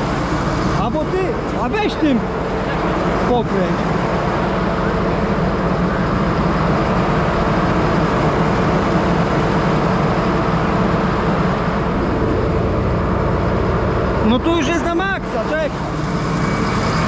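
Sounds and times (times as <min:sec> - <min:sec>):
engine running at raised throttle: 0:00.0 - 0:17.0.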